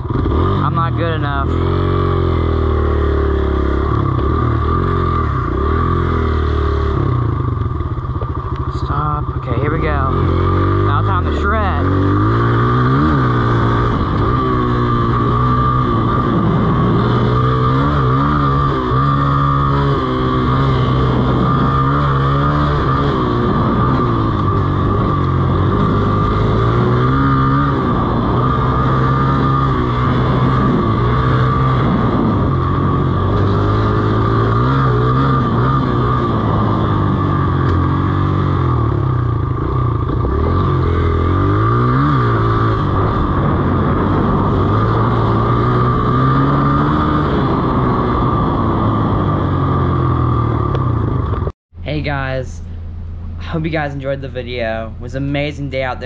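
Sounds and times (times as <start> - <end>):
dirt bike engine revving: 0.0 - 51.6.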